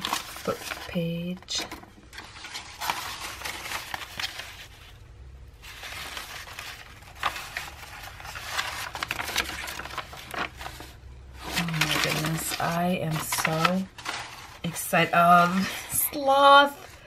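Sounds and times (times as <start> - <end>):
old paper pages rustling: 0.0 - 17.0.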